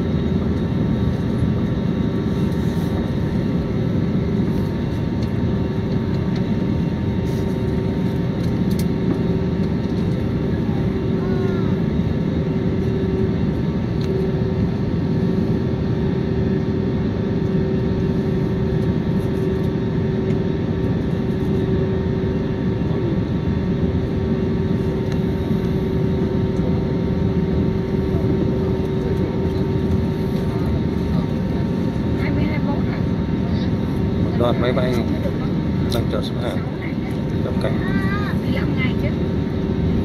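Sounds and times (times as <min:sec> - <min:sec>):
jet engine rumble in cabin: 0:00.0 - 0:40.0.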